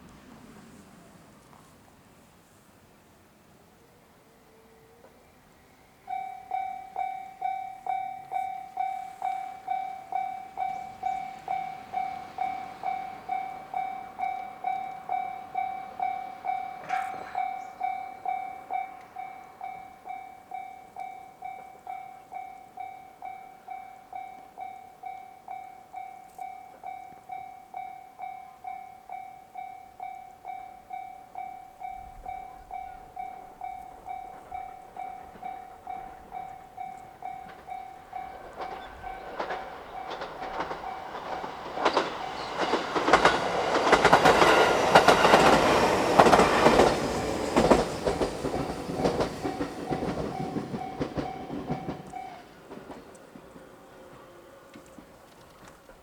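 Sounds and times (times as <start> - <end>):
level crossing warning bell: 5.9 - 54.7.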